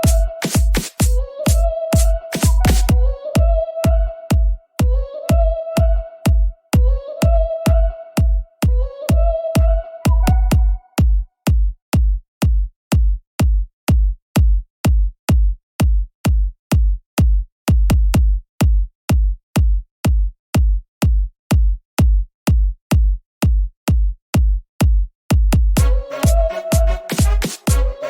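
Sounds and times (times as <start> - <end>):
drum machine kick beat: 0.0 - 5.5, 6.3 - 28.0.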